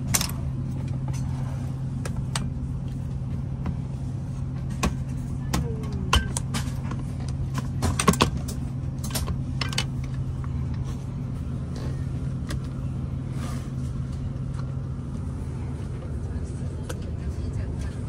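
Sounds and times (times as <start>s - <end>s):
airliner cabin engine drone: 0.0s - 18.0s.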